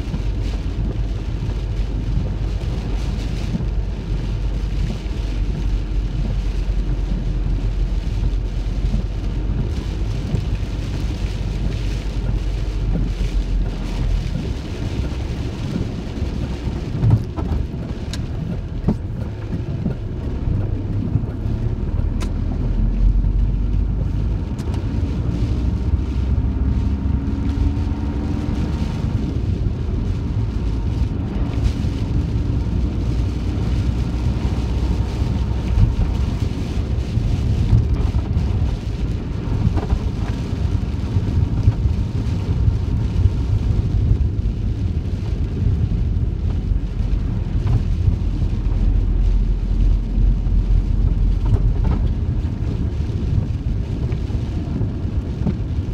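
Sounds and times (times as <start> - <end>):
heavy rain on vehicle roof: 0.0 - 55.9
road and engine rumble: 0.0 - 55.9.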